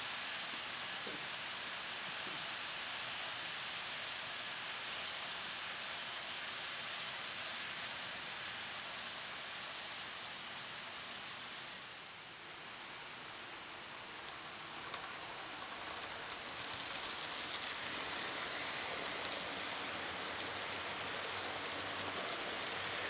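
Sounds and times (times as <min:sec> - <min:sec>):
model train wheels rolling on track: 0:00.0 - 0:23.0.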